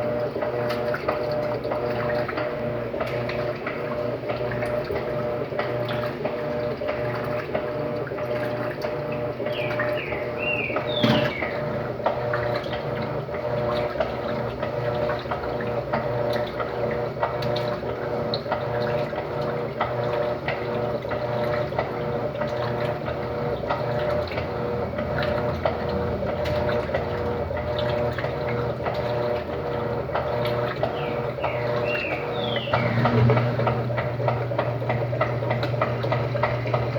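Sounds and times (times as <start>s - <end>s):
motor hum: 0.0s - 36.9s
washing machine water noise: 0.0s - 36.9s.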